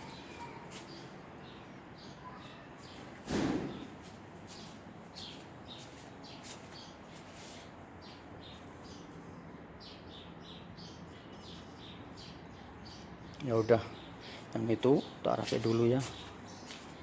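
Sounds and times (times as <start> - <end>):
faint background hum: 0.0 - 17.0
small birds chirping: 0.0 - 17.0.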